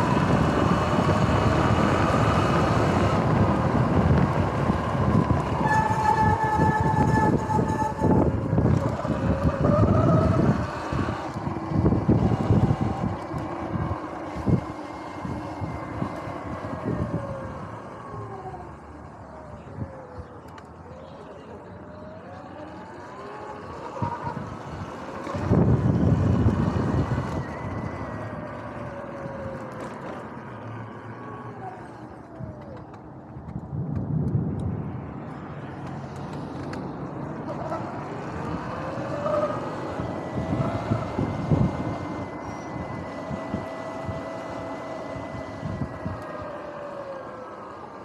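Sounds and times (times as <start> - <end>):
wind buffeting microphone: 0.0 - 18.6, 22.8 - 30.6, 32.4 - 47.8
electric motor whining: 0.0 - 20.9, 21.5 - 32.8, 36.1 - 48.0.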